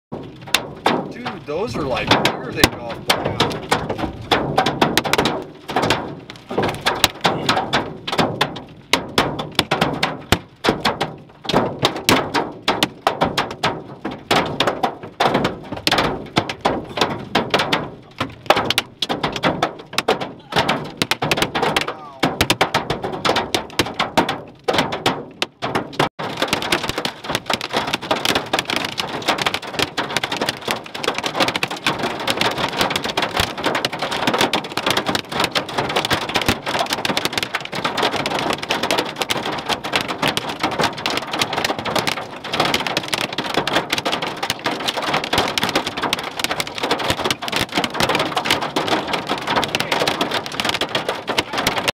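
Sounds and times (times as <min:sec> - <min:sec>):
hail pelting vehicle roof: 0:00.1 - 0:51.9.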